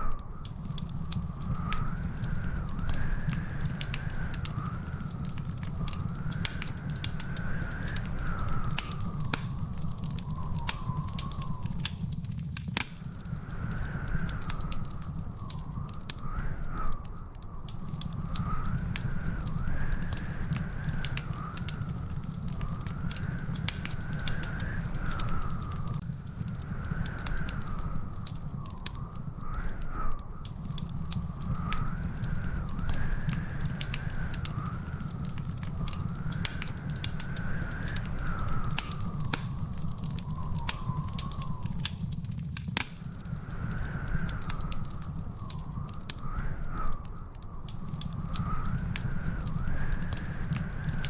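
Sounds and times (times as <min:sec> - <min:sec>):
log fire crackling: 0:00.0 - 0:51.0.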